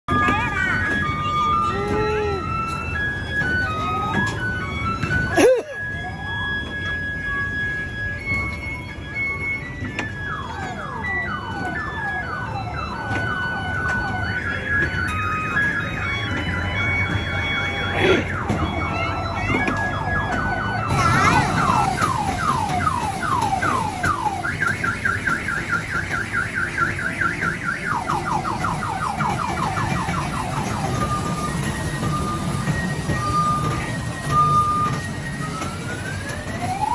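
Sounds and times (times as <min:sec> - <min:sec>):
electronic alarm siren: 0:00.2 - 0:36.9.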